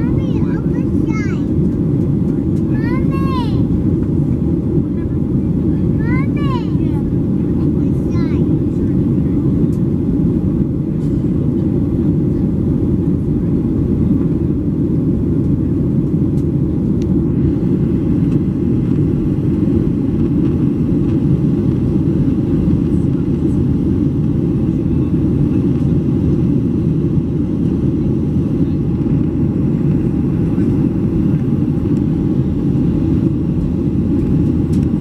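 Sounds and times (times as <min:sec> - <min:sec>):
airplane cabin rumble: 0:00.0 - 0:35.0.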